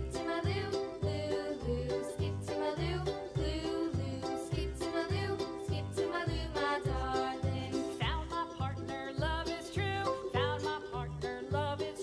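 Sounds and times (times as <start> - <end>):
children's music with bass beat: 0.0 - 12.0.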